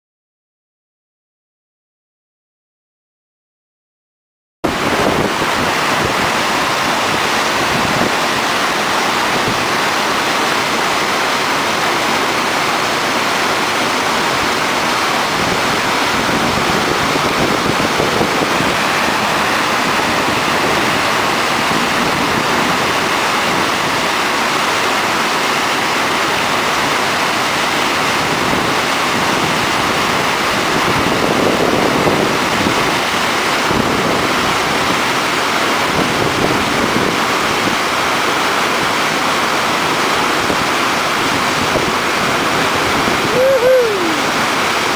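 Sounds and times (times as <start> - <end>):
whitewater rushing over weir: 4.6 - 44.9.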